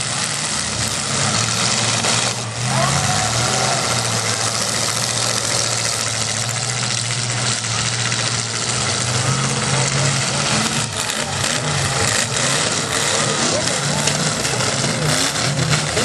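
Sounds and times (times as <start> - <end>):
car engines roaring: 0.0 - 16.0.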